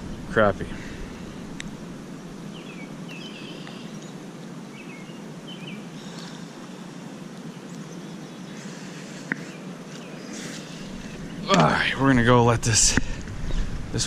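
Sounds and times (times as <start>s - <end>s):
outdoor background noise: 0.0s - 14.0s
small birds chirping: 0.0s - 14.0s.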